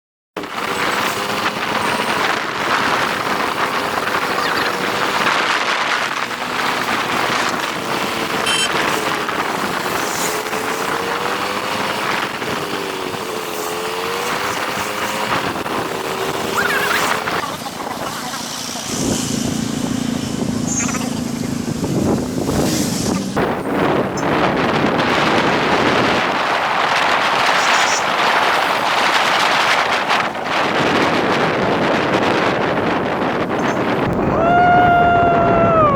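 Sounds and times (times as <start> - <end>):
motorcycle engine: 0.4 - 35.9
rushing wind noise: 0.4 - 35.9.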